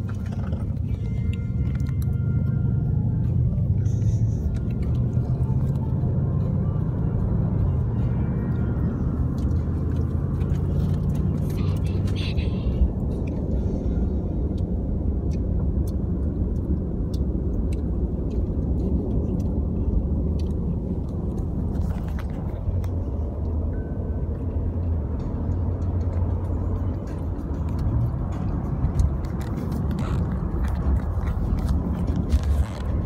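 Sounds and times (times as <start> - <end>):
road and engine noise in car: 0.0 - 33.0.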